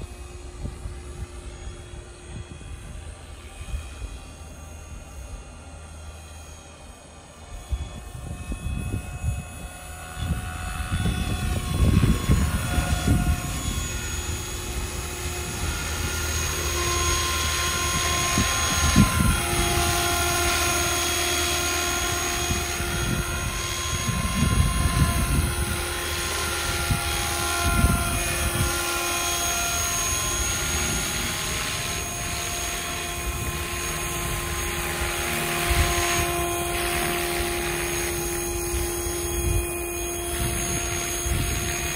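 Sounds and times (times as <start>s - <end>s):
model helicopter rotor whine: 0.0s - 41.9s.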